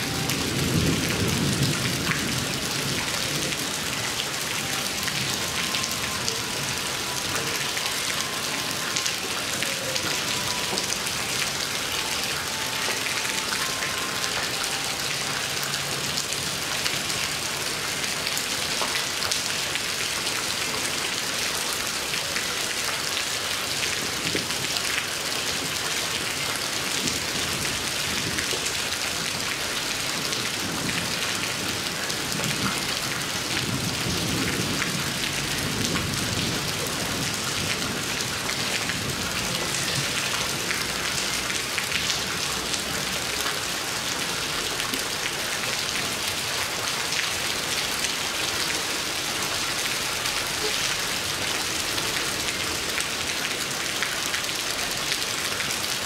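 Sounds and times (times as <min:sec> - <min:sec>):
heavy rain on leaves: 0:00.0 - 0:56.0.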